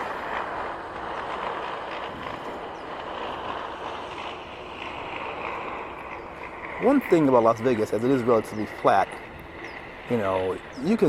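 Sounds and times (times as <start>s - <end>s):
passing traffic: 0.0s - 11.0s.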